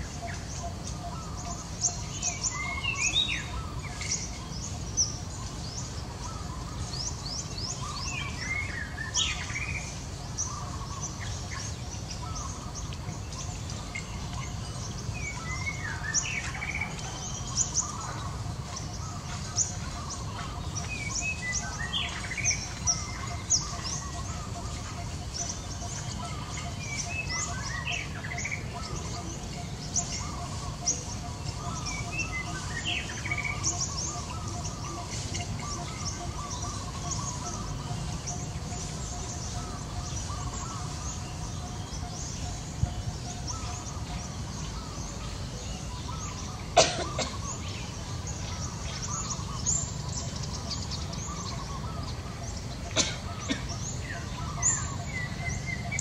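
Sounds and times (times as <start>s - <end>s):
constant low rumble: 0.0s - 56.0s
small birds chirping: 0.0s - 56.0s.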